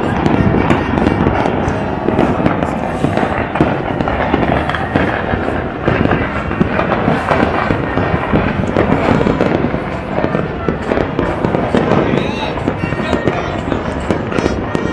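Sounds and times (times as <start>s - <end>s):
fireworks and firecrackers bangs: 0.0s - 14.9s.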